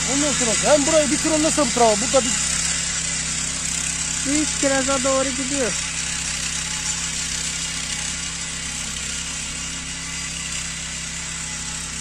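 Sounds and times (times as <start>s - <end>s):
brush cutter engine idling: 0.0s - 12.0s.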